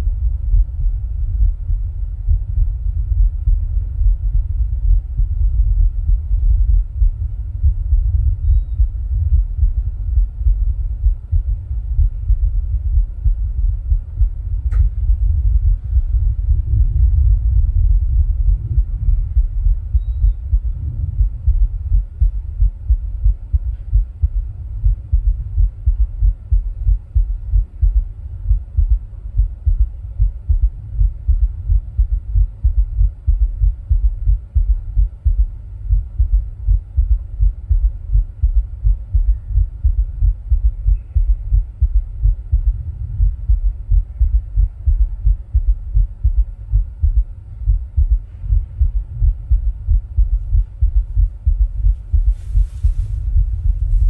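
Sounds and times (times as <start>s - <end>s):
faint steady hum: 0.0s - 54.0s
heartbeat thuds: 0.0s - 54.0s.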